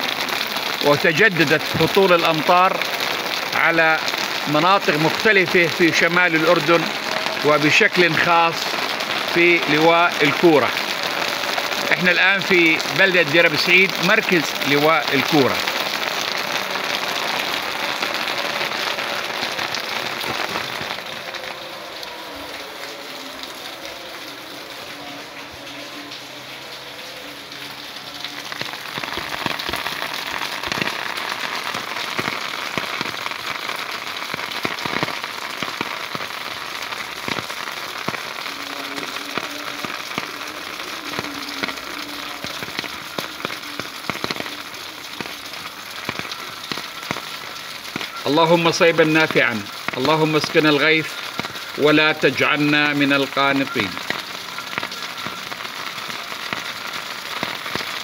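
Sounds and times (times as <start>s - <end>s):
heavy rain falling: 0.0s - 58.0s
raindrops hitting an awning: 0.0s - 58.0s.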